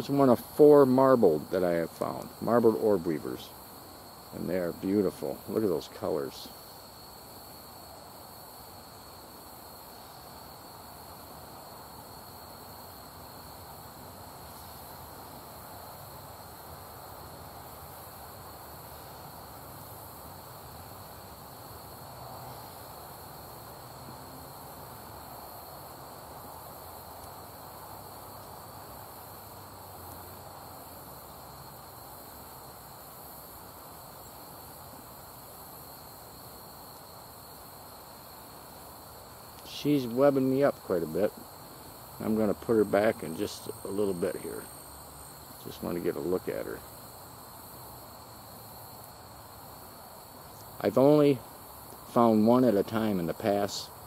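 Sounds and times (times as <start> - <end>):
faint background hiss: 0.0 - 54.0
insect chorus trilling: 0.0 - 54.0.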